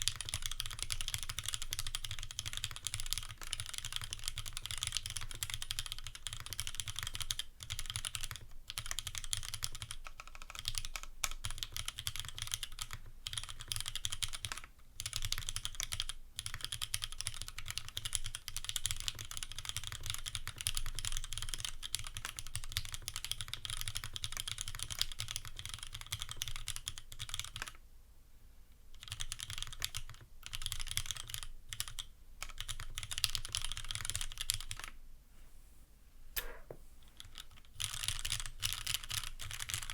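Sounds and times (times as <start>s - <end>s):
typing on mechanical keyboard: 0.0s - 27.8s, 29.0s - 34.9s, 37.1s - 39.9s.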